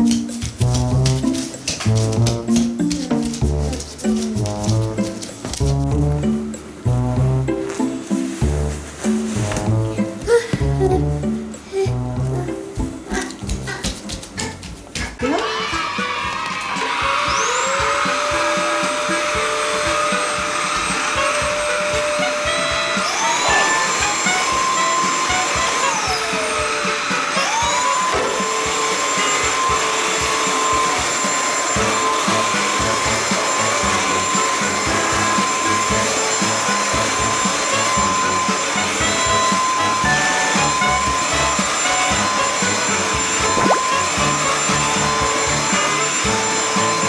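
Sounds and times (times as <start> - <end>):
stick vacuum cleaner whining: 0.0 - 6.9, 12.5 - 47.0.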